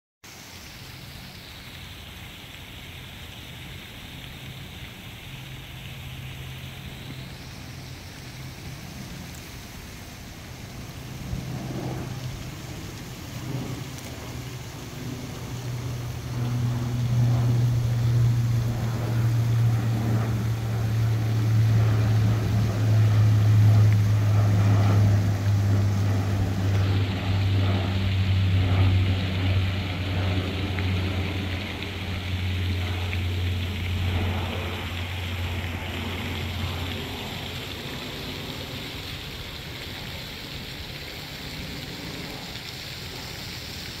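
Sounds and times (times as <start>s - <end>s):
propeller plane drone: 0.3s - 44.0s.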